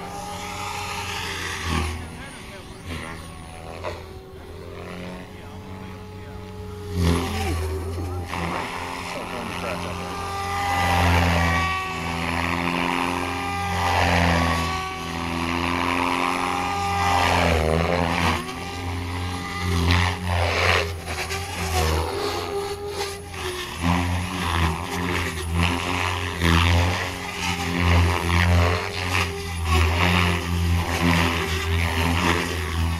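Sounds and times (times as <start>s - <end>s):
rc helicopter rotor whine: 0.0s - 32.9s.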